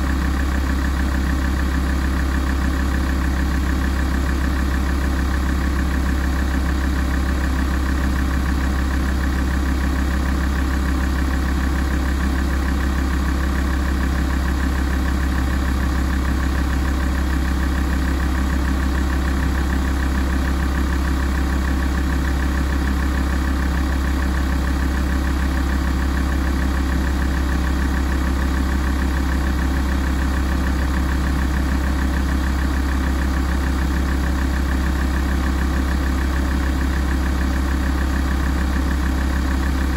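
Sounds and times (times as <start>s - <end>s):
diesel car engine idling: 0.0s - 39.9s.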